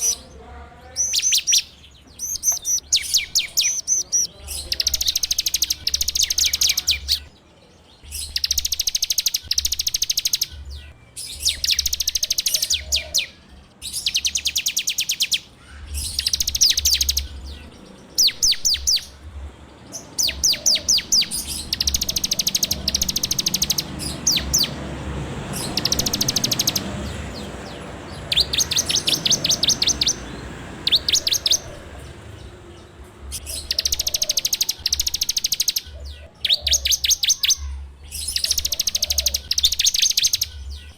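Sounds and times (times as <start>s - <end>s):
small bird singing rapid notes: 0.0s - 40.9s.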